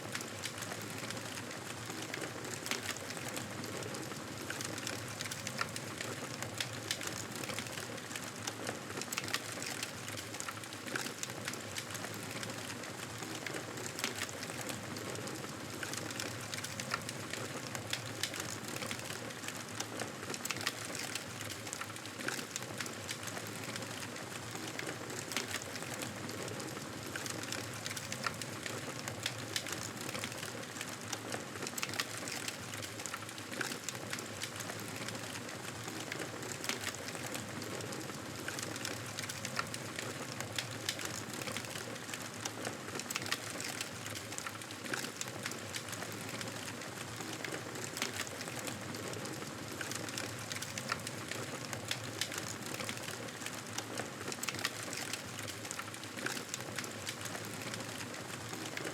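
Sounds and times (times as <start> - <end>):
fire crackling: 4.3 - 58.9.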